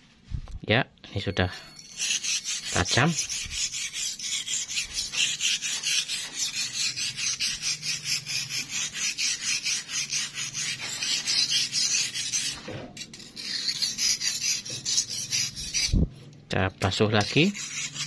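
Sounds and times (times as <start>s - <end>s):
knife scraping on whetstone: 1.5s - 16.0s, 16.8s - 18.0s.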